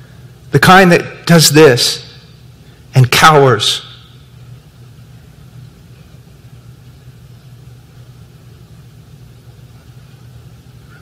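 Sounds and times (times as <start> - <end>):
room noise hum: 0.0 - 11.0.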